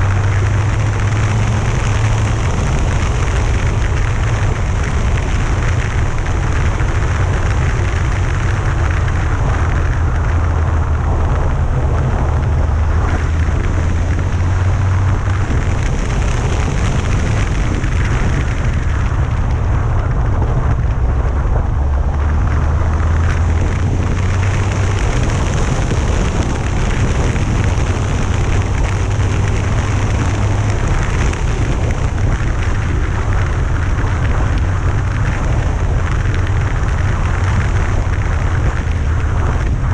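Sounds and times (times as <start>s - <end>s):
motorcycle engine: 0.0s - 39.9s
wind rumble on microphone: 0.0s - 39.9s.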